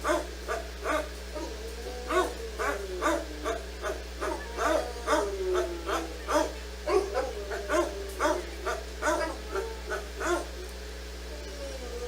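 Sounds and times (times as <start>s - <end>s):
dog barking: 0.0s - 1.5s, 2.1s - 10.6s
dog whining: 0.0s - 12.0s
steady low hum: 0.0s - 12.0s.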